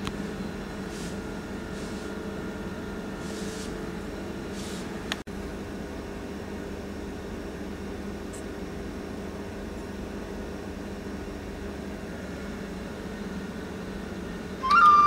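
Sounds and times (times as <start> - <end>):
laboratory equipment humming: 0.0 - 15.0.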